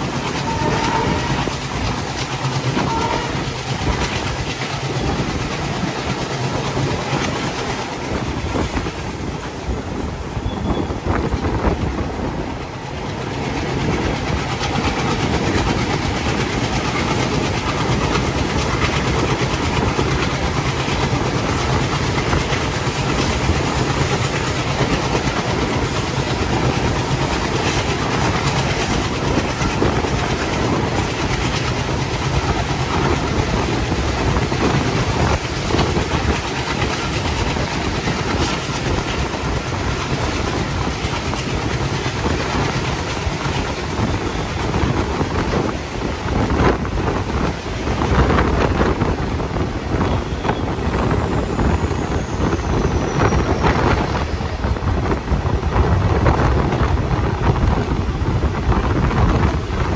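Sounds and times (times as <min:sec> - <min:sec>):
diesel locomotive engine running: 0:00.0 - 0:59.9
train wheels clacking on rails: 0:00.0 - 0:59.9.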